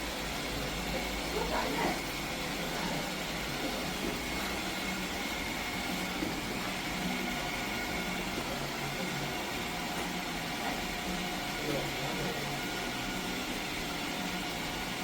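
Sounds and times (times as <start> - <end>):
robot vacuum fan noise: 0.0 - 15.0.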